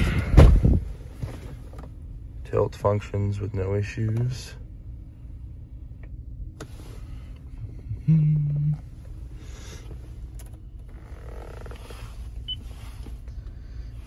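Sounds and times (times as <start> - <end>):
loud low hum: 0.0 - 11.5.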